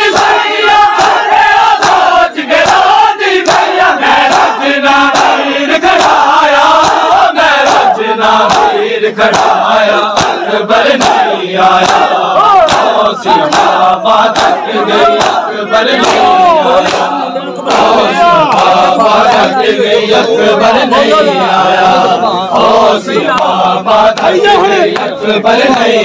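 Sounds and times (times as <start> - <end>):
crowd chanting: 0.0 - 26.0
hands slapping chests: 0.1 - 18.8, 23.2 - 26.0.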